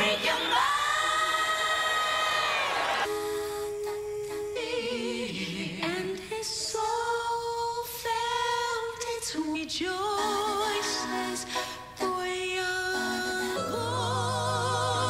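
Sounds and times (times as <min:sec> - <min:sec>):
women singing in harmony: 0:00.0 - 0:15.0.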